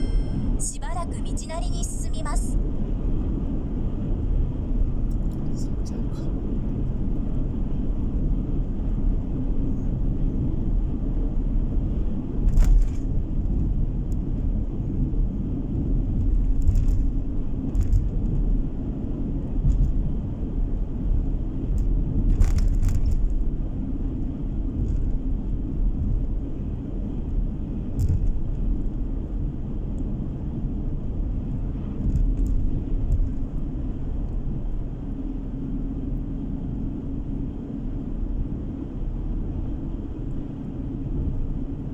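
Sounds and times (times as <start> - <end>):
car engine and tyre rumble: 0.0 - 41.9.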